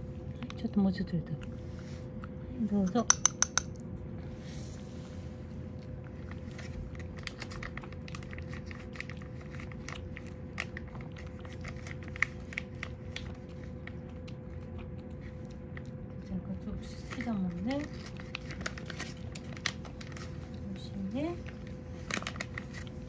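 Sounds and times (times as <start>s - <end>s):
cat chewing wet food: 0.0s - 2.6s, 3.2s - 20.6s.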